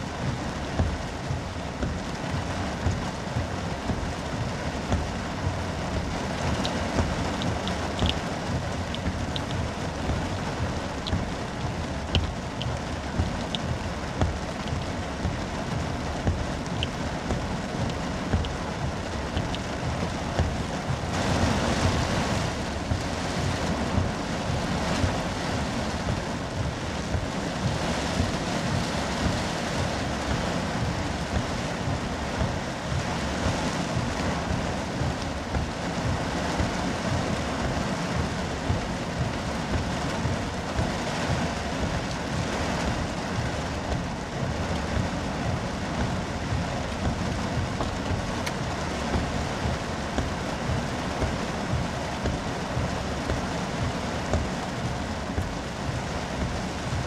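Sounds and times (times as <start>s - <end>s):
heavy rain on car roof: 0.0s - 57.0s.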